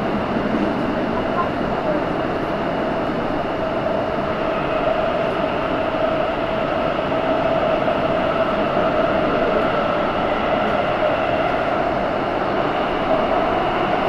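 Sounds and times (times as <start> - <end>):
train whine: 0.0 - 14.0
wheel and rail noise: 0.0 - 14.0.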